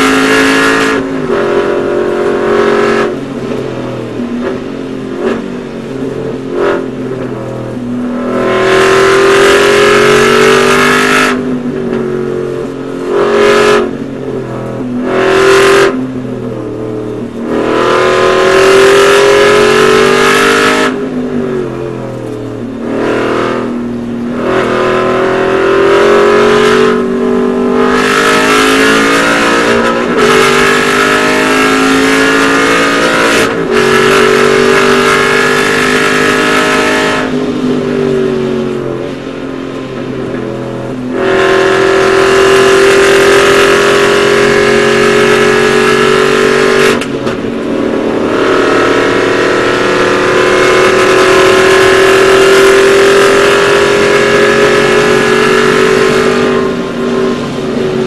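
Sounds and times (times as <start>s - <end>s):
racing engine revving: 0.0s - 58.0s.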